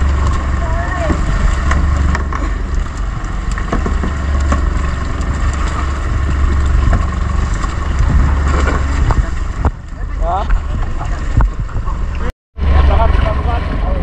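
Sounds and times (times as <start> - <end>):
boat engine droning: 0.0 - 14.0
knocks and splashes of fish: 0.0 - 14.0.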